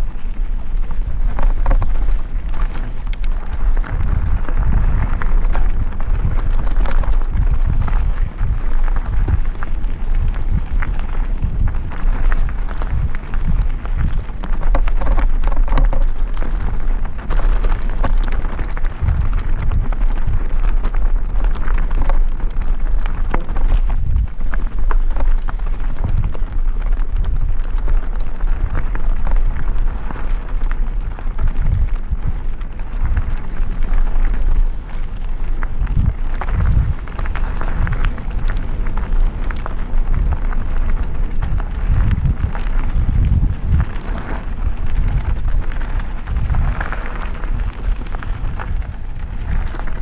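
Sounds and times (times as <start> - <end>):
bike tyres crunching over gravel: 0.0 - 50.0
stones and bike rattling: 0.0 - 50.0
wind buffeting microphone: 0.0 - 50.0.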